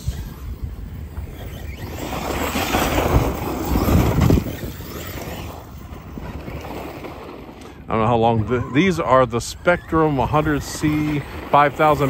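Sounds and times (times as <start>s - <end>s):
rc car driving over gravel: 0.0s - 12.0s.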